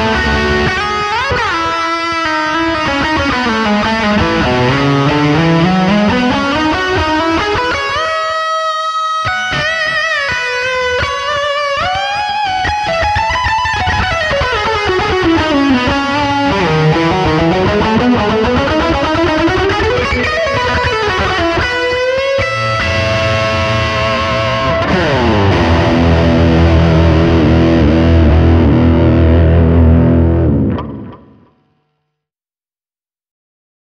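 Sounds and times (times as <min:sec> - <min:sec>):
guitar chord ringing: 0:00.0 - 0:08.7, 0:09.3 - 0:31.6
overdriven electric guitar sliding: 0:00.0 - 0:31.8.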